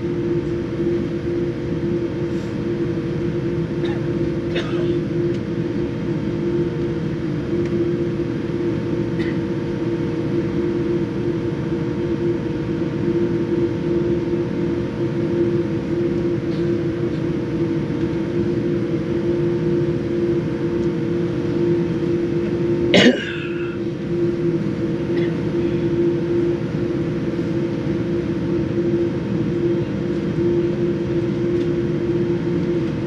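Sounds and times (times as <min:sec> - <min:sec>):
aircraft engines rumbling: 0:00.0 - 0:33.0
steady droning hum: 0:00.0 - 0:33.0.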